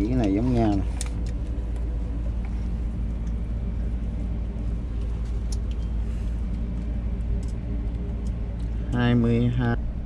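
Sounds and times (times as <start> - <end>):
low mechanical motor hum: 0.0 - 10.0.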